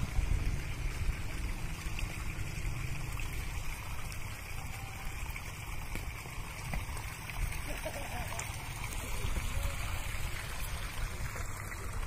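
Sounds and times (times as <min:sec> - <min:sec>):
water washing: 0:00.0 - 0:12.0.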